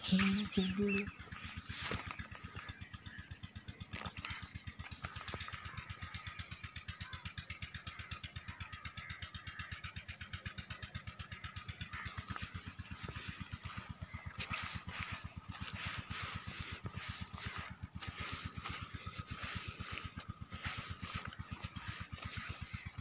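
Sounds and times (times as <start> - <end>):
engine putting at low speed: 0.0 - 23.0.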